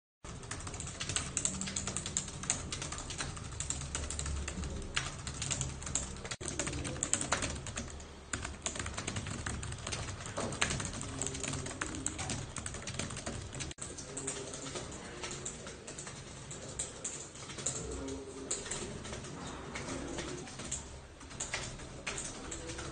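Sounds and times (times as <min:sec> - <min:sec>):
fast keyboard typing: 0:00.2 - 0:22.9.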